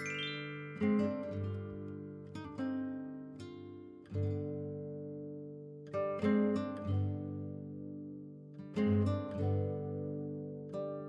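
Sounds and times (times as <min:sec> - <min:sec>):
plucked string instrument music: 0:00.0 - 0:11.0.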